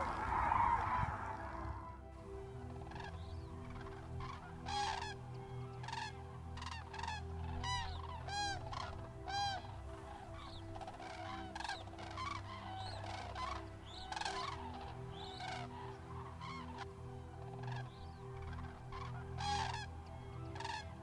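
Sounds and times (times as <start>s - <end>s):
cranes trumpeting calls: 0.0s - 21.0s.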